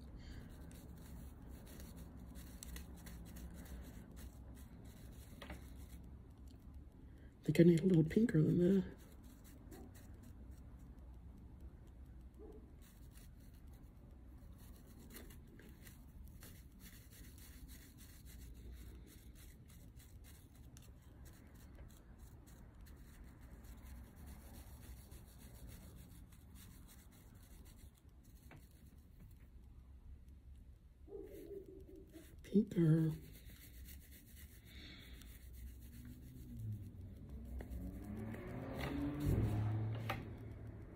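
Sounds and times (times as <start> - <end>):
paintbrush scratching: 0.0 - 40.9.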